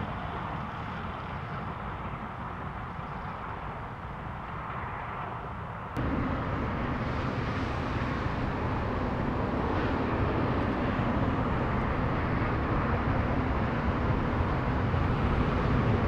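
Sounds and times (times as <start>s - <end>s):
steam locomotive exhaust roar: 0.0s - 16.0s.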